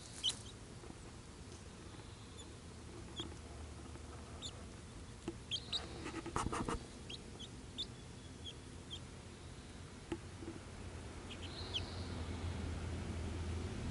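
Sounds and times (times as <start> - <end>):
chicks peeping: 0.0 - 10.6, 11.2 - 12.3.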